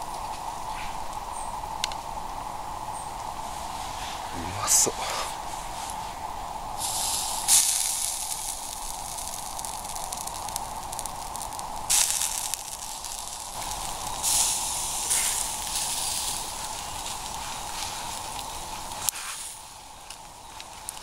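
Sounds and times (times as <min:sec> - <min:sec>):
fat crackling on coals: 0:00.0 - 0:21.0
meat sizzling over embers: 0:03.0 - 0:21.0.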